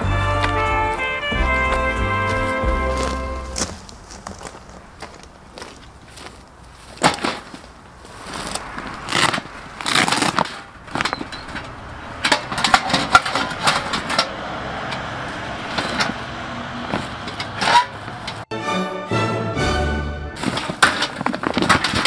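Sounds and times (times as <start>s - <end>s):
camping gear knocking and rustling: 0.0s - 18.5s, 20.4s - 22.0s.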